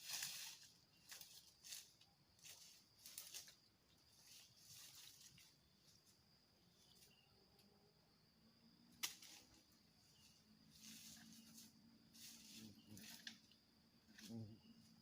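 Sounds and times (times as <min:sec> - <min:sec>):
faint rustles: 0:00.0 - 0:06.2, 0:09.1 - 0:15.0.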